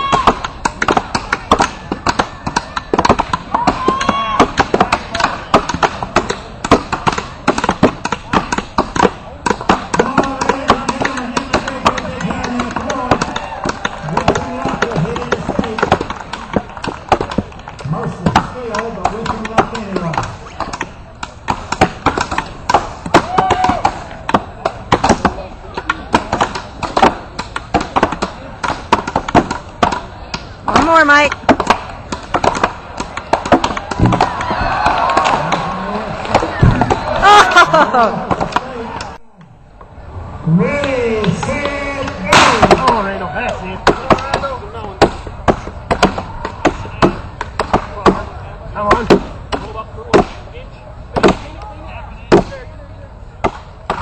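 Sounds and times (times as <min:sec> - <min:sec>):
voices calling out: 0:00.0 - 0:54.0
axes chopping into wood: 0:00.1 - 0:37.6, 0:41.6 - 0:43.1, 0:43.8 - 0:50.4, 0:51.1 - 0:51.6, 0:53.4 - 0:54.0.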